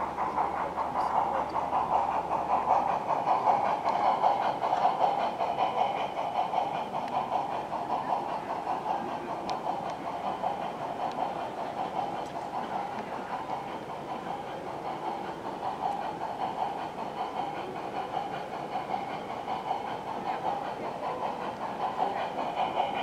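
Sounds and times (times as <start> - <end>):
model train rail clatter: 0.0 - 23.0.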